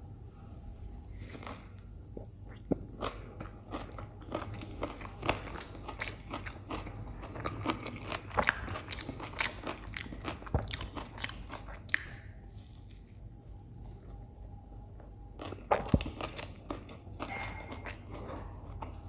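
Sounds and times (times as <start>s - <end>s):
wet chewing: 1.2s - 19.0s.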